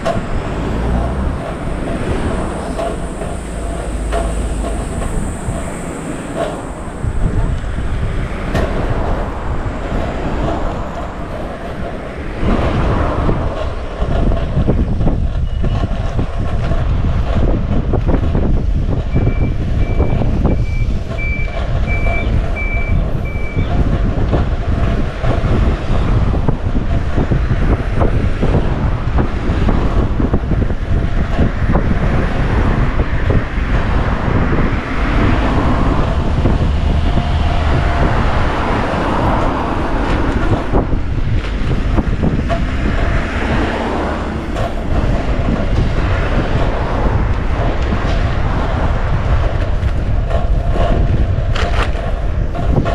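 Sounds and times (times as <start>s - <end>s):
wind and road noise: 0.0s - 52.9s.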